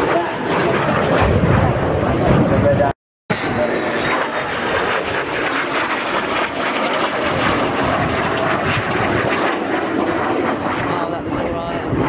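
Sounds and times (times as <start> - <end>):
aircraft flying overhead: 0.0 - 12.0.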